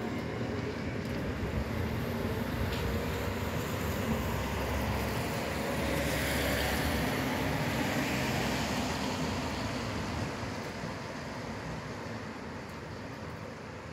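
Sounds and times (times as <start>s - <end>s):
tram rumbling on tracks: 0.0s - 13.9s.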